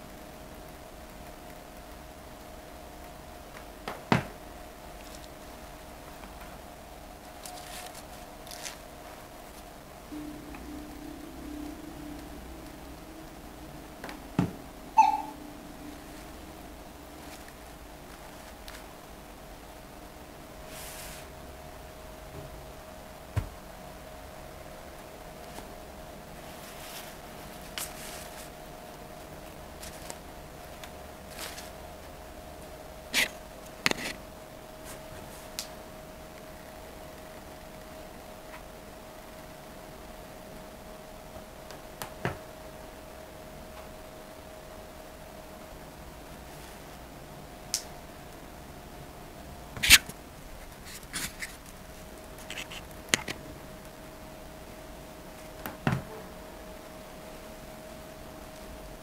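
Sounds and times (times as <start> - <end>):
faint high hum: 0.0 - 59.0.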